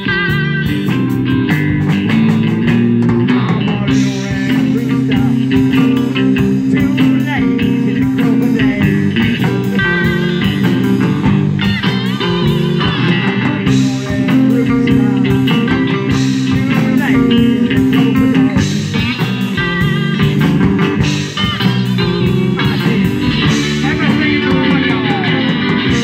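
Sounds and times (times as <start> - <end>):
electric blues band playing: 0.0 - 26.0
lead guitar bending notes: 0.0 - 26.0.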